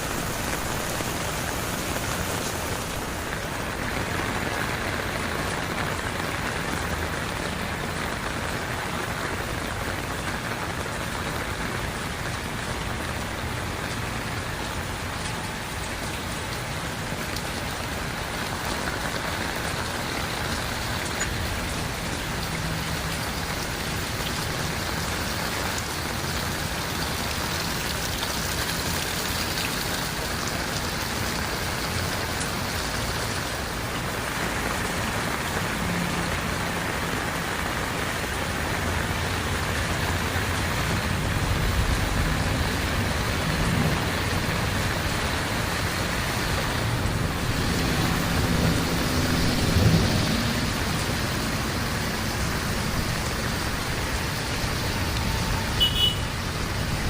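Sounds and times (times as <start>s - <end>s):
heavy rain falling: 0.0s - 57.0s
raindrops splashing on surfaces: 0.0s - 57.0s.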